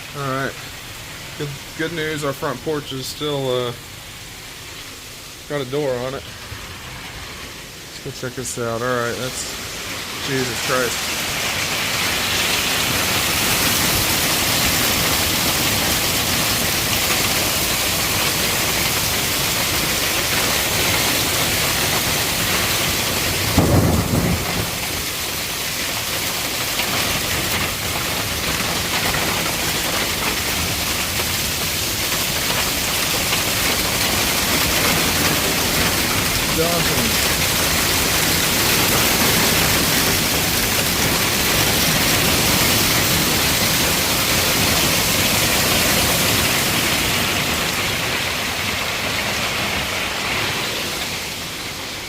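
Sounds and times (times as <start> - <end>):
heavy storm rain pouring: 0.0 - 52.0.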